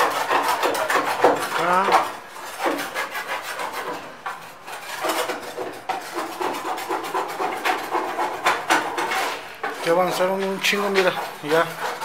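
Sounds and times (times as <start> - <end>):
rhythmic gritty scraping: 0.0 - 12.0.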